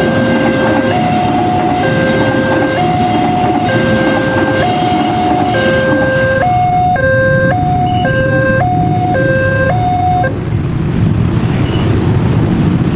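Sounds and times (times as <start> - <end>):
two-tone crossing alarm: 0.0 - 10.4
passing traffic rumble: 0.0 - 12.9.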